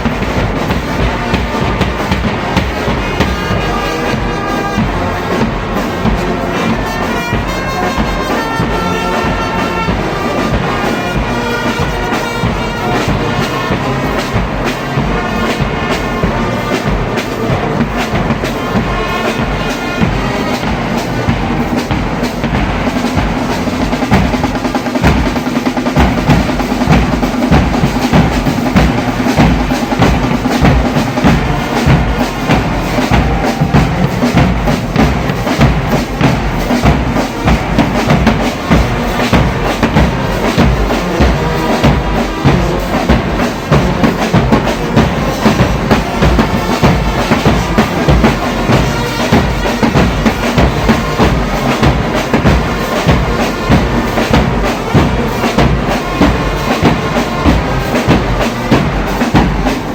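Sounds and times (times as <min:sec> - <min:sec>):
brass horns playing melody: 0:00.0 - 0:59.9
steady drumbeat: 0:00.0 - 0:59.9.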